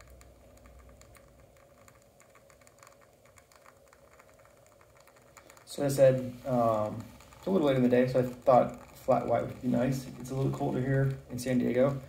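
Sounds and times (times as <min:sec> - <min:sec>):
espresso trickling into a cup: 0:00.0 - 0:12.0
low steady hum: 0:00.0 - 0:12.0.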